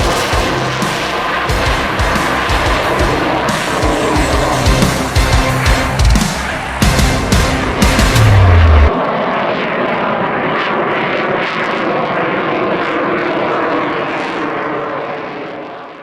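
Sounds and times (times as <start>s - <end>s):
aircraft engine rushing: 0.0s - 16.0s.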